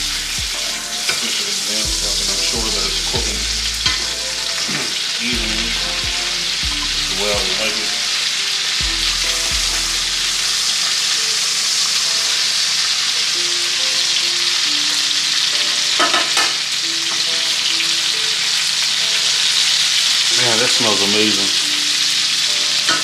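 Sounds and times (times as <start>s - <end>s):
fish sizzling in hot oil: 0.0s - 23.0s.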